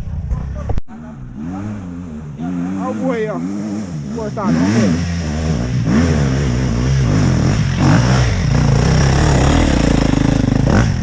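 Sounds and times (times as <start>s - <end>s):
dirt bike engine revving: 1.0s - 11.0s.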